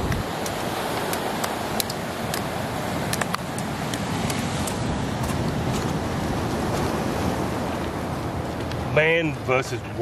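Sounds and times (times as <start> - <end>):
ocean surf breaking on rocks: 0.0 - 10.0
wind: 0.0 - 10.0.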